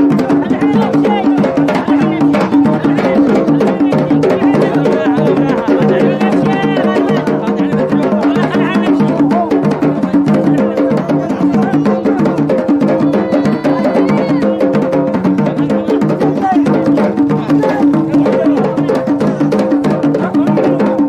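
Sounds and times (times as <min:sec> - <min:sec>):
drums beating fast rhythm: 0:00.0 - 0:21.0.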